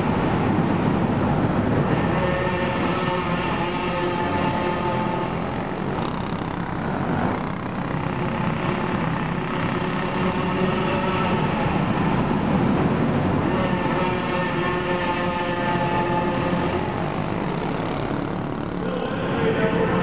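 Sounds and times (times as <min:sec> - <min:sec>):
go-kart engines droning: 0:00.0 - 0:20.0.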